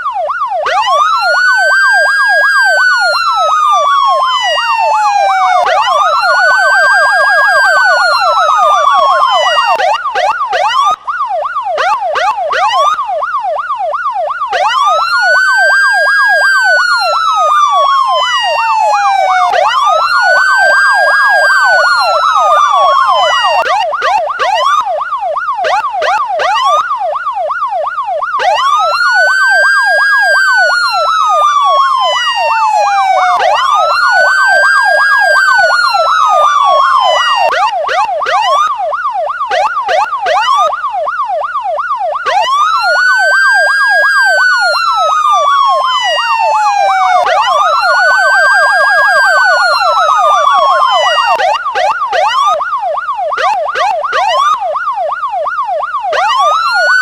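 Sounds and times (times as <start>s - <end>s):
electronic police siren: 0.0s - 57.0s.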